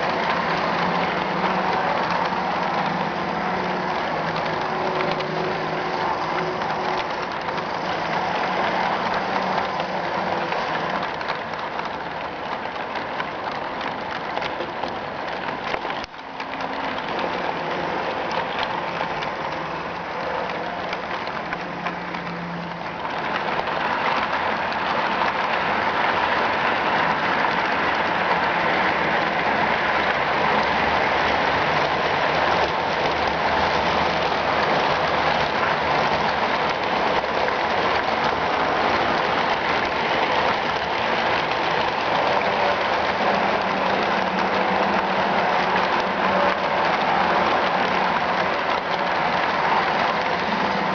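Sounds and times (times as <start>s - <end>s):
model train wheels rattling: 0.0s - 50.9s.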